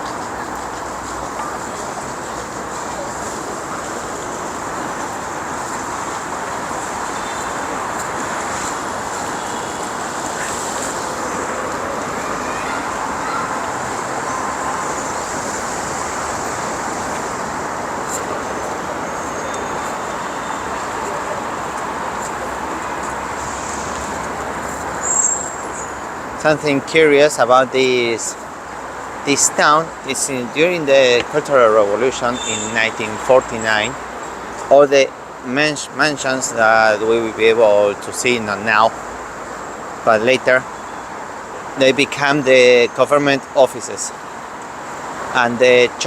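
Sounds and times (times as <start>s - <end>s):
steady outdoor rushing noise: 0.0s - 46.0s.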